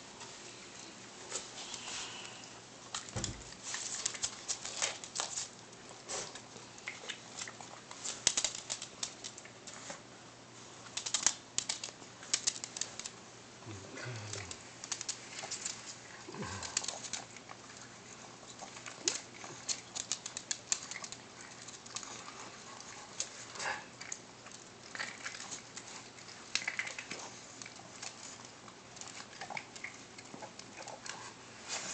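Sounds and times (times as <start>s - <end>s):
dogs chewing and licking: 0.2s - 13.3s, 14.2s - 31.9s.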